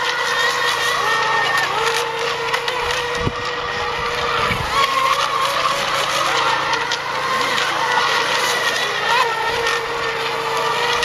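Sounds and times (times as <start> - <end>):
racing boat motors whining: 0.0 - 11.0.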